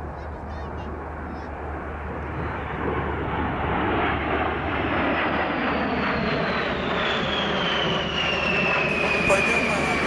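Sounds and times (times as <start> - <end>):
jet engines passing overhead: 0.0 - 10.0.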